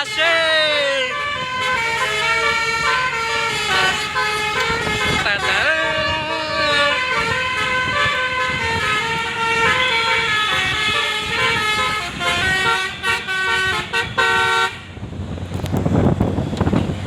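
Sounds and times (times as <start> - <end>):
bus horn melody: 0.0 - 14.9.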